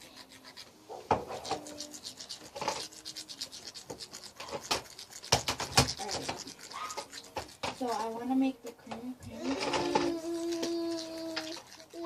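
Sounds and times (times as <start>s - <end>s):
slime scraping and rubbing: 0.0s - 8.4s, 9.4s - 12.0s.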